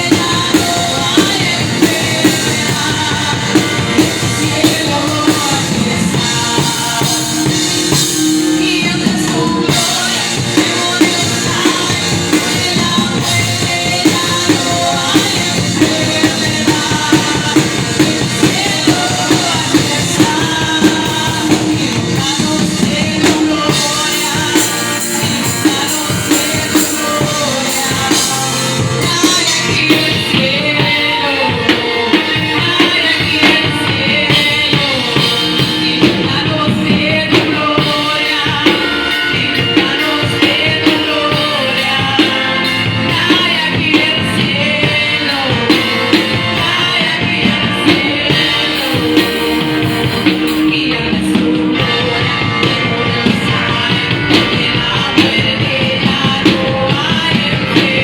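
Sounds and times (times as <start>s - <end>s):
drum kit beat: 0.0s - 58.0s
worship band playing: 0.0s - 58.0s.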